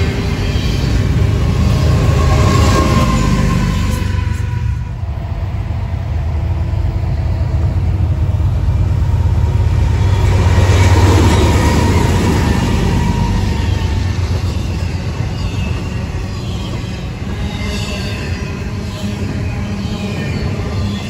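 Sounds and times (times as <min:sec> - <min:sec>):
freight train engine rumble: 0:00.0 - 0:21.0.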